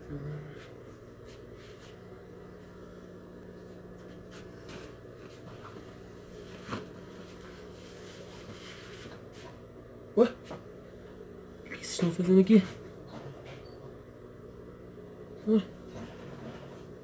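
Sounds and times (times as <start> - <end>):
low hum: 0.0 - 16.9.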